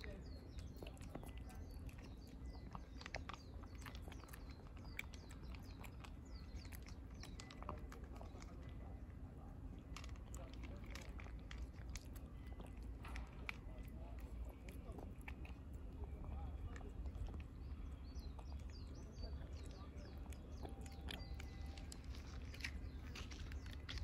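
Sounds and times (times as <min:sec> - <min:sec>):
birds chirping: 0:00.0 - 0:24.0
cat chewing and licking: 0:00.0 - 0:24.0.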